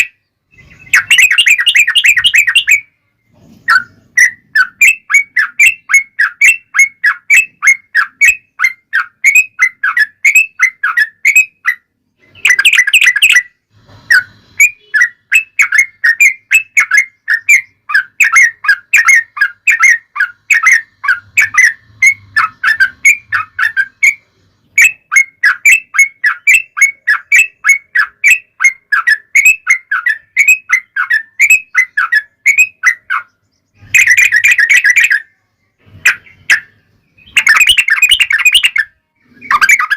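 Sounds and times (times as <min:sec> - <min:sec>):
bird chirping fast: 0:00.0 - 0:39.9.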